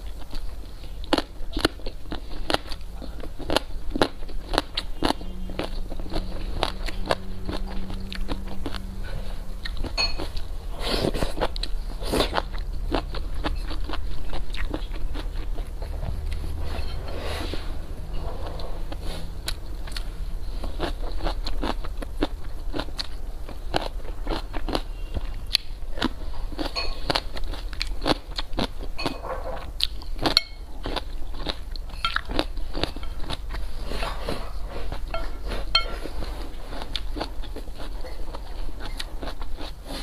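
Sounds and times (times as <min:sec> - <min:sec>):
person chewing and biting food: 0:00.0 - 0:40.0.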